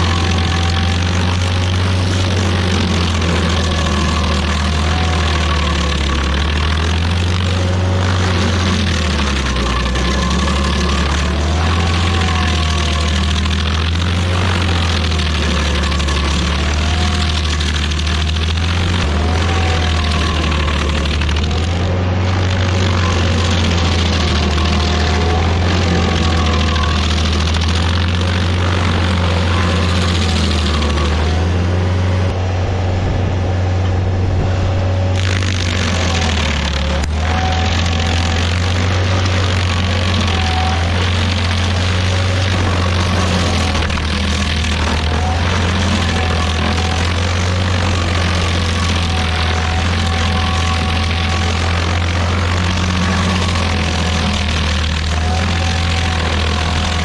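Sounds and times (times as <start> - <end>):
cutter wheel grinding stump: 0.0 - 57.0
stump grinder engine running: 0.0 - 57.0
wavering whine: 0.0 - 57.0.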